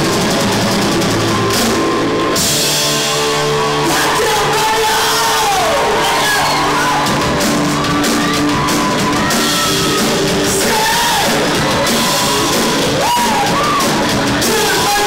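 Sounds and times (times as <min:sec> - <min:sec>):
drum kit hit hard: 0:00.0 - 0:15.0
live rock band playing: 0:00.0 - 0:15.0.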